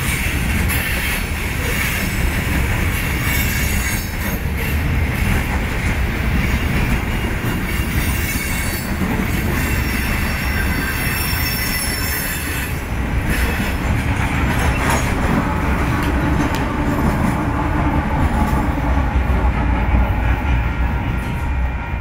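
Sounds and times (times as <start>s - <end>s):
diesel locomotive engine: 0.0s - 22.0s
train cars rolling and rumbling: 0.0s - 22.0s.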